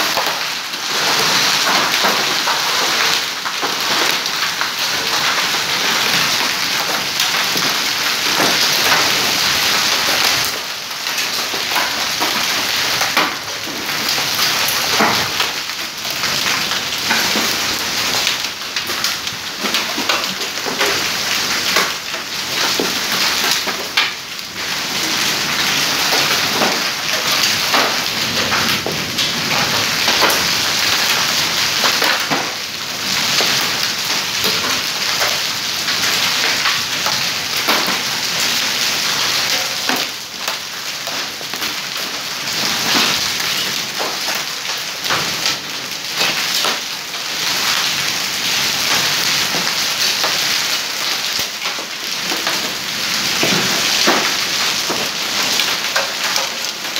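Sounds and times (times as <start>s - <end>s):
hailstones striking: 0.0s - 56.9s.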